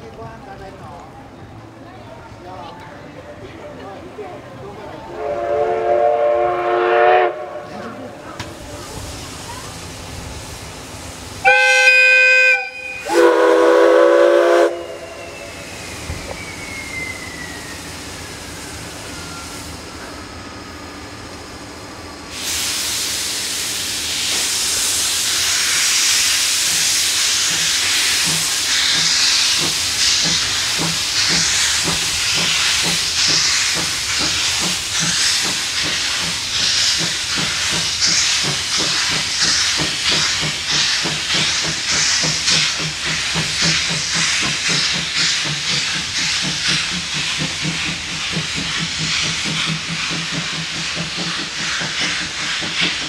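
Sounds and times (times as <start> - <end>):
steam hissing: 5.2 - 53.0
steam locomotive exhaust chuffs: 8.5 - 53.0.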